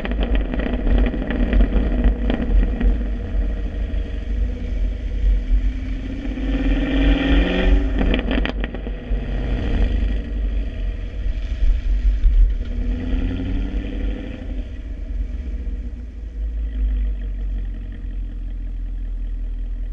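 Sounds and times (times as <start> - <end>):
car engine idling: 0.0 - 19.9
car engine revving: 0.0 - 19.9
exhaust crackles: 0.0 - 19.9.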